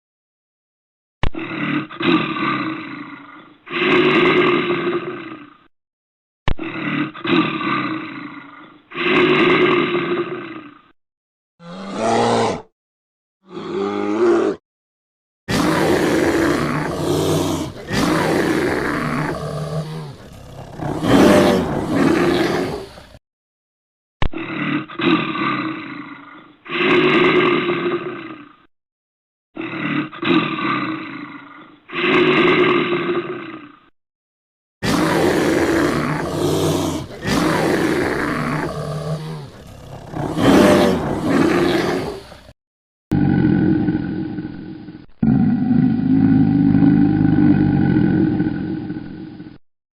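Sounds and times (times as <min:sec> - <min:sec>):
bear roaring: 0:01.3 - 0:05.7, 0:06.5 - 0:11.0, 0:11.6 - 0:12.7, 0:13.4 - 0:14.6, 0:15.5 - 0:23.2, 0:24.3 - 0:28.7, 0:29.6 - 0:33.9, 0:34.8 - 0:49.6.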